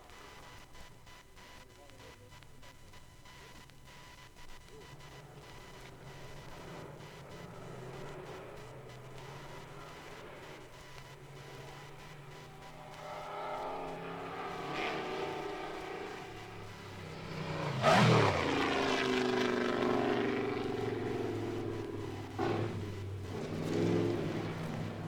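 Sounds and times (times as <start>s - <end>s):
racing car engine passing: 4.9s - 25.0s.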